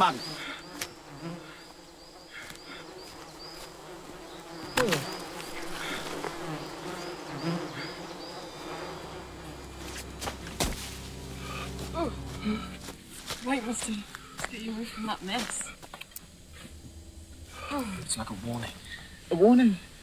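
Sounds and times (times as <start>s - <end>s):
flies buzzing: 0.0s - 20.0s.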